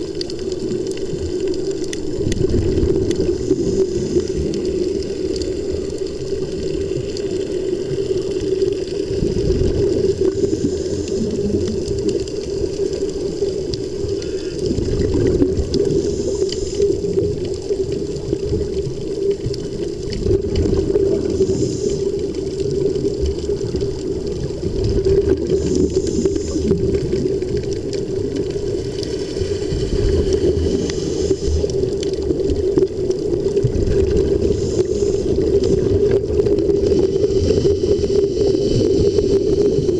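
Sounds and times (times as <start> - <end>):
underwater air bubbling: 0.0 - 39.9.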